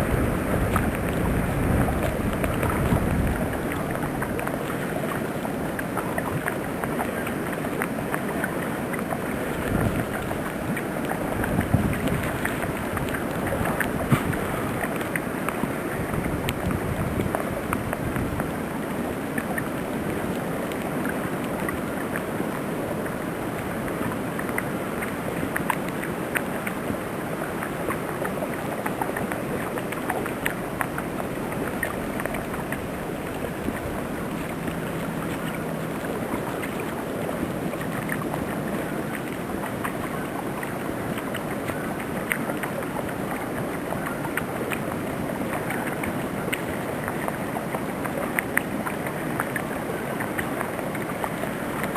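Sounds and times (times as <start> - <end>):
wind buffeting on microphone: 0.0 - 51.9.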